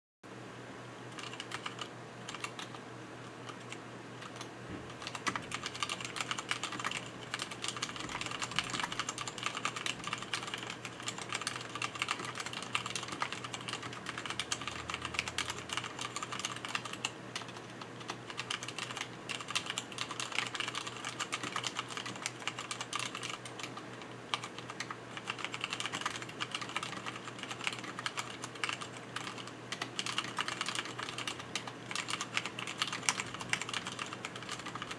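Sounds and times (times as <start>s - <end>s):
fast typing on mechanical keyboard: 1.1s - 2.8s, 3.4s - 34.9s.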